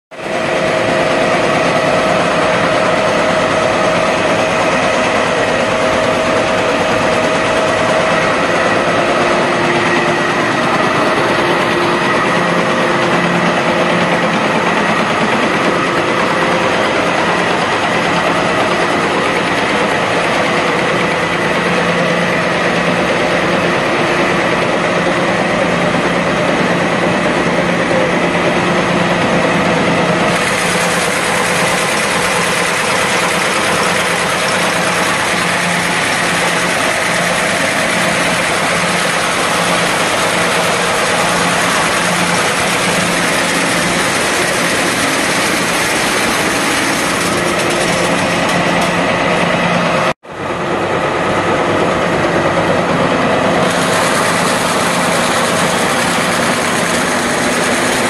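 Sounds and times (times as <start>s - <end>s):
can body welder whirring: 0.1s - 50.2s, 51.4s - 58.0s.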